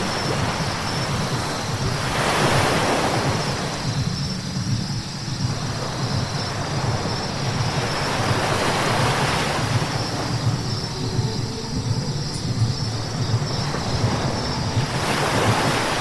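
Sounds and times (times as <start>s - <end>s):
vehicle low rumble: 3.1s - 16.0s.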